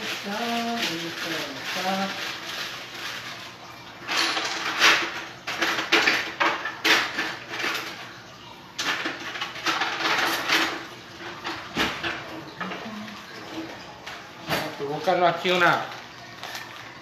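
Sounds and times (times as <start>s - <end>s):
kitchen utensils clattering: 0.0s - 17.0s.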